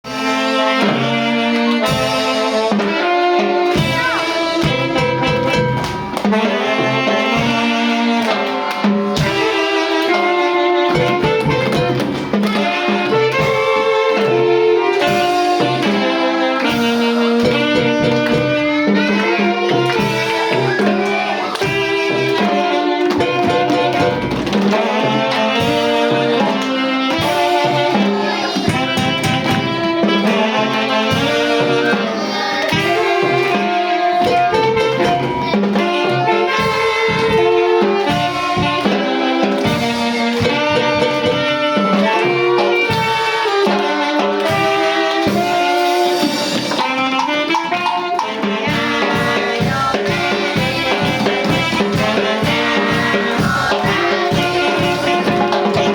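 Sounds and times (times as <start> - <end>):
brass band playing: 0.0 - 55.9.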